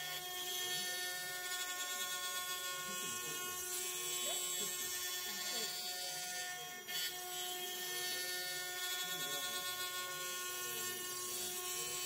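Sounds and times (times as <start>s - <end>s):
router spindle whining: 0.0s - 12.0s.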